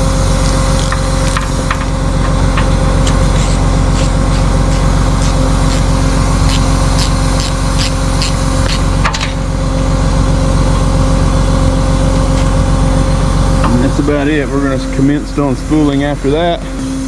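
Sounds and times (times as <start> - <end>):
tow truck engine idling: 0.0 - 17.0.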